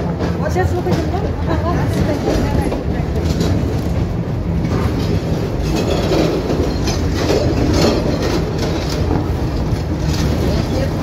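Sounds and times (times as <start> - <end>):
tram rumbling on rails: 0.0 - 11.0
wheels clacking and rattling: 0.0 - 11.0.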